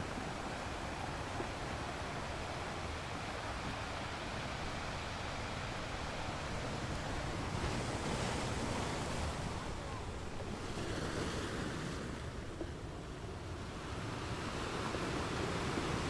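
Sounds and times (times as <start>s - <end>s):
ocean waves on sand beach: 0.0s - 16.0s.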